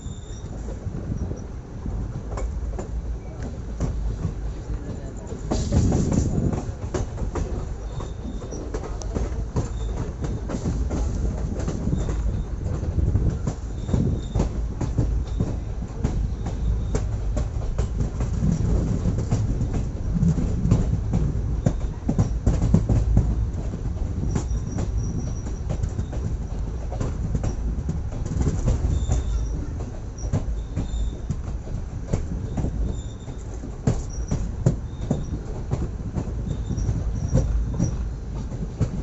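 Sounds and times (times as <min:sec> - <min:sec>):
train wheels rumbling on rails: 0:00.0 - 0:39.0
clicks over rail joints: 0:02.2 - 0:39.0.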